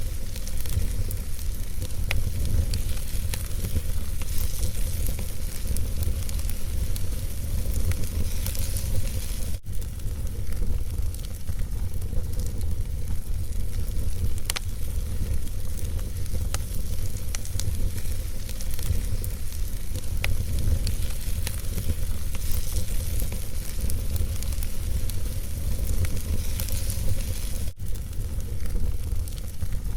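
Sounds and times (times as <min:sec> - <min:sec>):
fire crackling and popping: 0:00.0 - 0:29.9
fire rumbling and hissing: 0:00.0 - 0:29.9.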